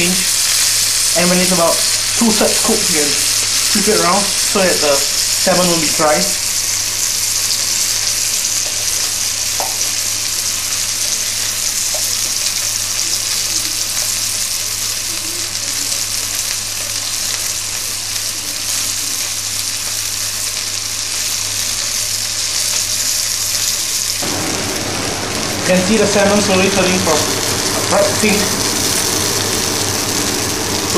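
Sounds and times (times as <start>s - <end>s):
fish sizzling in a pan: 0.0s - 30.9s.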